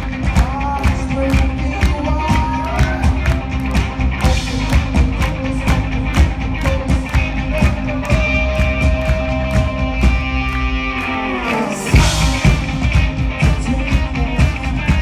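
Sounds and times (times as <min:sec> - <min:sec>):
man singing: 0:00.0 - 0:03.5, 0:04.2 - 0:10.0, 0:11.0 - 0:15.0
steady drum beat: 0:00.0 - 0:11.0, 0:11.8 - 0:15.0
electric bass guitar: 0:00.0 - 0:15.0.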